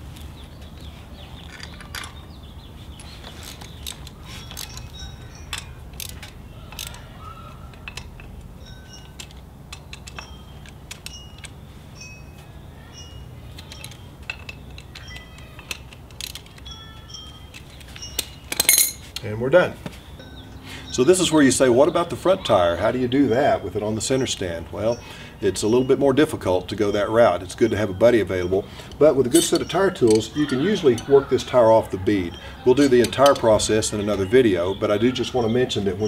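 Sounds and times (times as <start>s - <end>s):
metal hand tools clinking: 1.4s - 19.4s, 20.0s - 36.0s.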